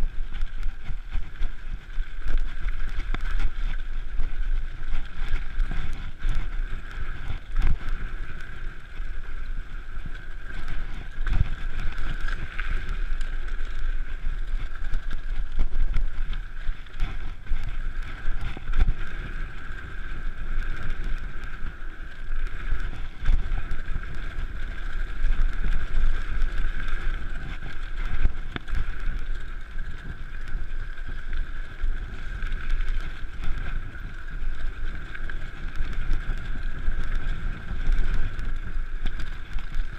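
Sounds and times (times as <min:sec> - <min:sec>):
bike tyre and drivetrain noise: 0:00.0 - 0:39.9
wind buffeting microphone: 0:00.0 - 0:39.9.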